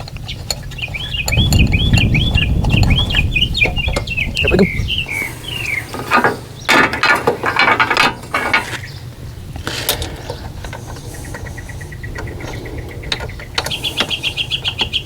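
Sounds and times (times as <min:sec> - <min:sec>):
bird chirp: 0:00.0 - 0:06.8, 0:08.6 - 0:15.0.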